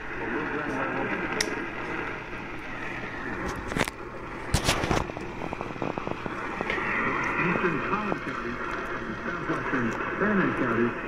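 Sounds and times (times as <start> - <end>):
radio static hiss: 0.0 - 11.0
static crackles and pops: 0.0 - 11.0.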